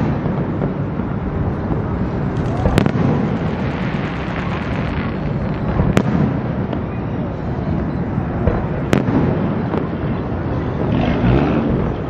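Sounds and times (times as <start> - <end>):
sharp firework crack: 0.0 - 7.1, 8.3 - 12.0
fireworks booms rumbling: 0.0 - 12.0
fireworks crackling: 0.0 - 12.0.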